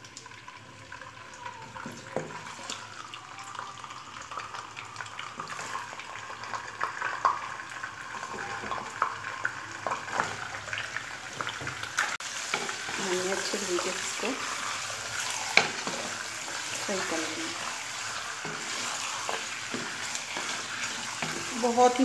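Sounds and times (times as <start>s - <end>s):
fish sizzling in hot oil: 0.0s - 22.0s
oil crackling and popping: 0.0s - 22.0s.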